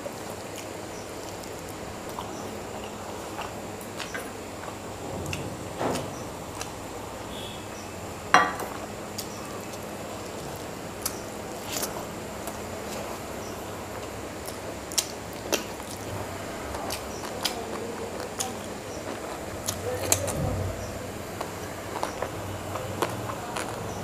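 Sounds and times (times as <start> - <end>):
hand mixing and chewing food: 0.0 - 24.0.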